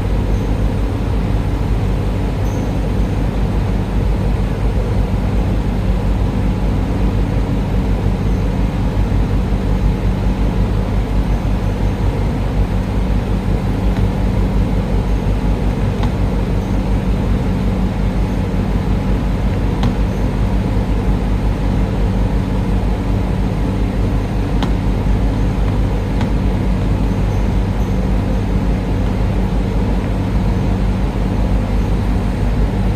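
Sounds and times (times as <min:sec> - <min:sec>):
air conditioner humming: 0:00.0 - 0:32.9.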